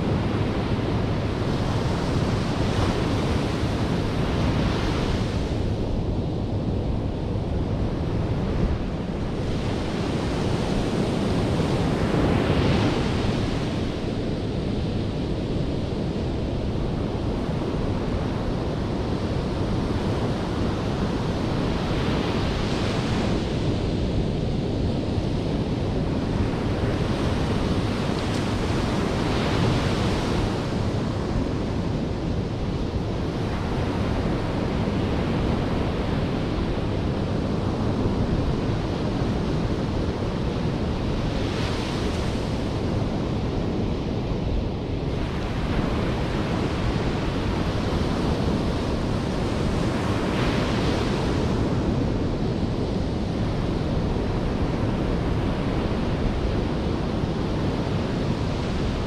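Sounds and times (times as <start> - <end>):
wind on microphone: 0.0 - 59.0.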